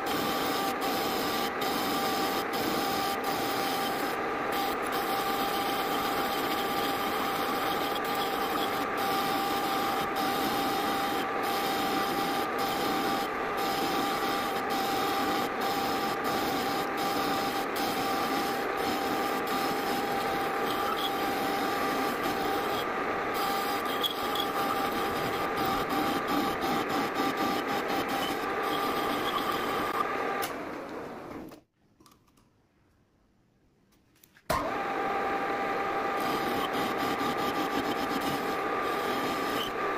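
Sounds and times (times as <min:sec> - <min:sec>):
metal lathe machining: 0:00.0 - 0:30.5, 0:34.6 - 0:39.9.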